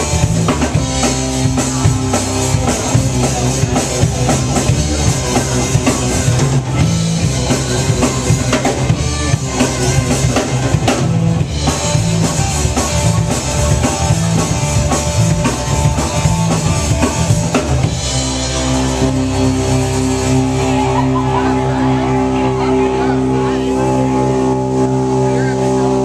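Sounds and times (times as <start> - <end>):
blues rock band playing: 0.0 - 26.0
drum kit beating: 0.0 - 26.0.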